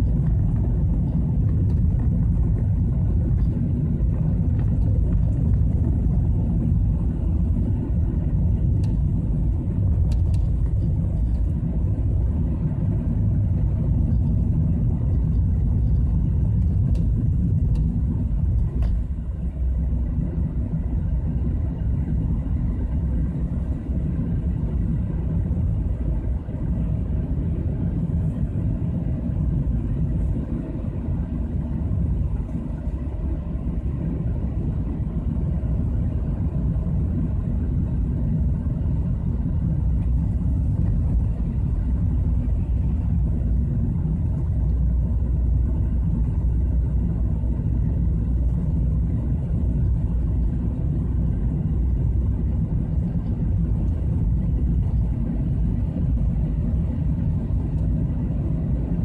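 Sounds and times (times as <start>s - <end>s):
car driving through tunnel: 0.0s - 59.0s.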